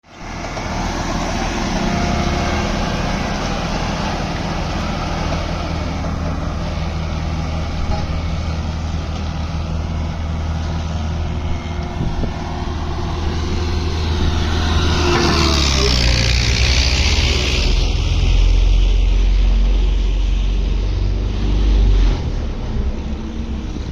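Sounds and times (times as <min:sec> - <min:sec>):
road roller diesel engine rumbling: 0:00.0 - 0:23.9.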